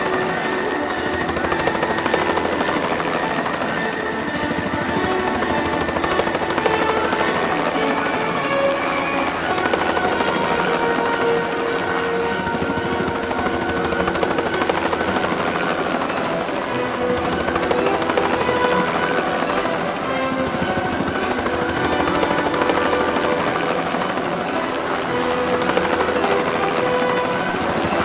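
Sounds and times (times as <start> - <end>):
helicopter rotor chop and engine: 0.0 - 28.0.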